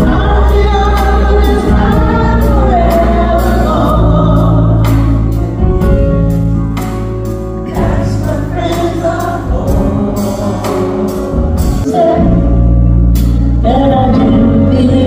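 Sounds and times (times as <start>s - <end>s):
steady drum beat: 0.0s - 13.4s
choir singing with band: 0.0s - 15.0s.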